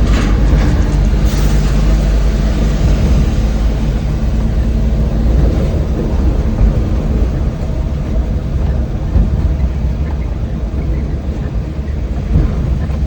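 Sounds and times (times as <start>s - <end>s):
road noise: 0.0s - 13.0s
van engine rumble: 0.0s - 13.0s.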